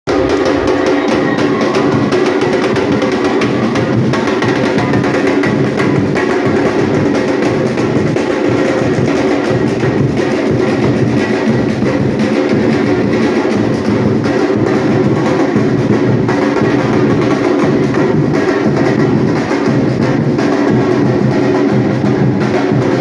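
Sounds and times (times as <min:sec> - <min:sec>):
percussion band drumming: 0:00.1 - 0:23.0.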